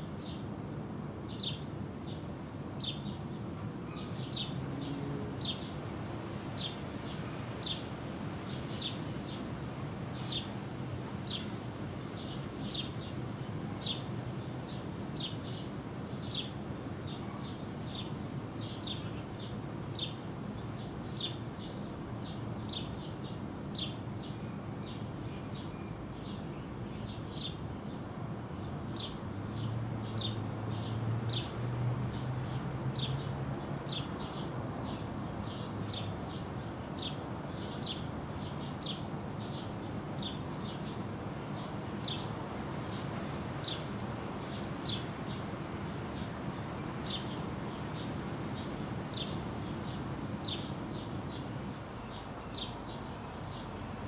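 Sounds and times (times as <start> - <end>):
outdoor background noise: 0.0 - 54.0.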